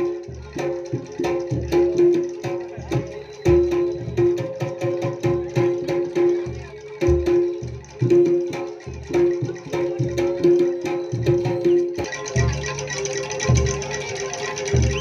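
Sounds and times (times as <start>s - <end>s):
drums beating busy rhythm: 0.0s - 15.0s.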